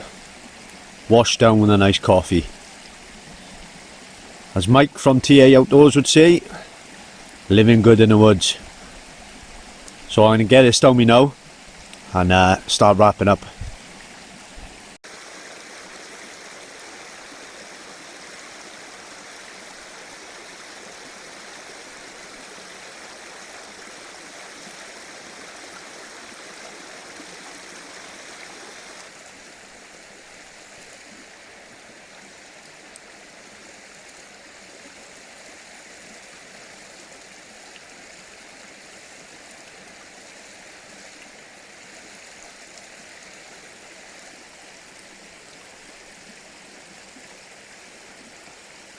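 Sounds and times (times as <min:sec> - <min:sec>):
stream flowing over rocks: 0:00.0 - 0:48.9.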